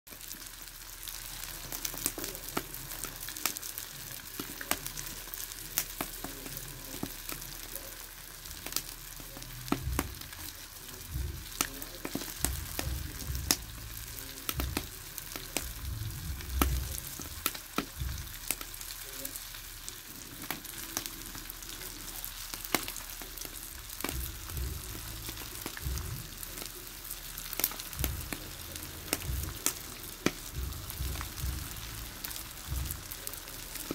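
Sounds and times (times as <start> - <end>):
fish sizzling on a grill: 0.1 - 33.9
pops and crackles: 1.2 - 33.9.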